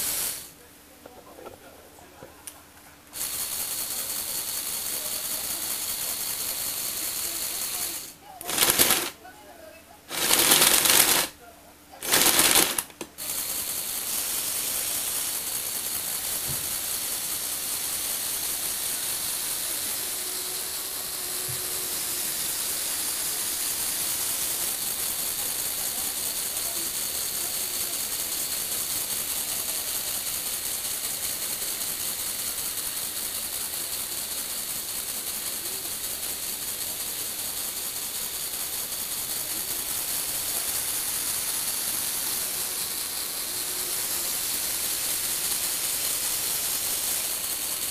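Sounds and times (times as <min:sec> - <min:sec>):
toy motors and gears whirring: 0:00.0 - 0:00.6, 0:03.0 - 0:47.9.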